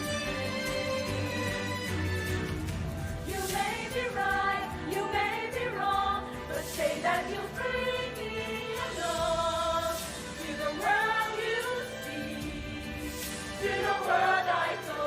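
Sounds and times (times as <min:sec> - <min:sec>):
choir singing in harmony: 0:00.0 - 0:02.1, 0:03.0 - 0:15.0.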